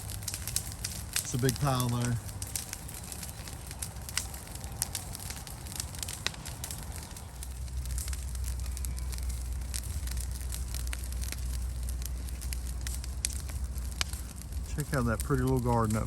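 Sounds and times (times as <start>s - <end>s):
bonfire crackling and popping: 0.0s - 16.0s
low fire rumble: 0.0s - 16.0s.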